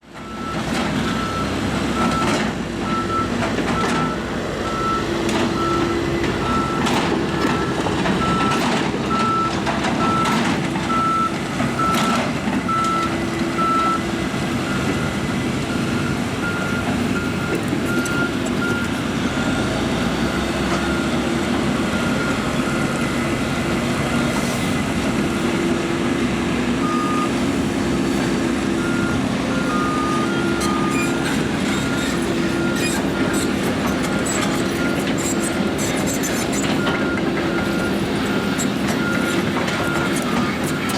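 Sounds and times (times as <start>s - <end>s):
excavator diesel engine: 0.0s - 40.9s
reversing alarm beeping: 0.2s - 40.9s.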